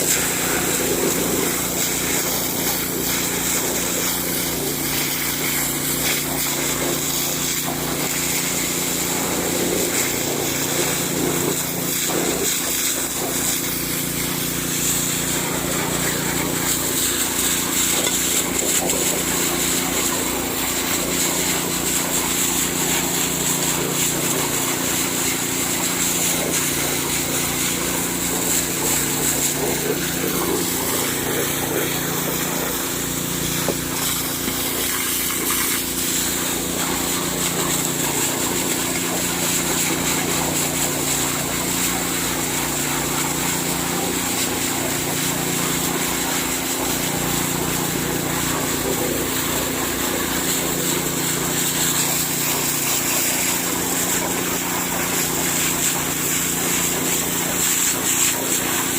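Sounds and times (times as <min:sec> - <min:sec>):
petrol water pump running: 0:00.0 - 0:58.9.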